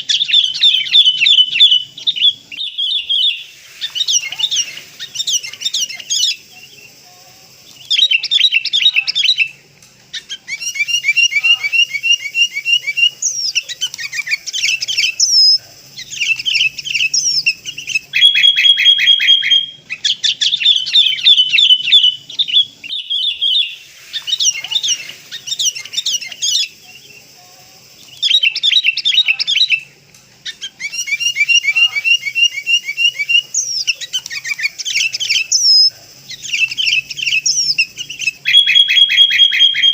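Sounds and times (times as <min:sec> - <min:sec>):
bulbul chirps and trills: 0:00.0 - 0:39.9.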